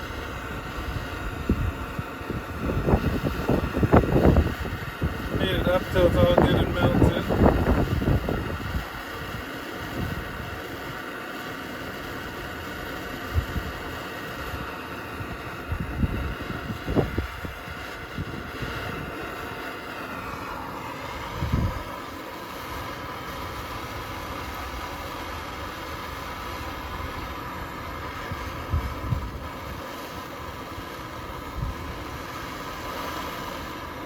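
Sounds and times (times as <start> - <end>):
torch flame burning: 0.0 - 34.0.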